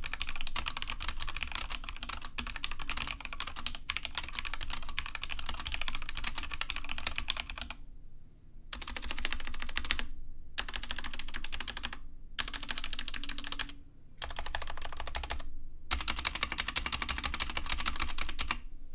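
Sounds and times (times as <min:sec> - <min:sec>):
mechanical keyboard typing: 0:00.0 - 0:07.8, 0:08.8 - 0:18.6.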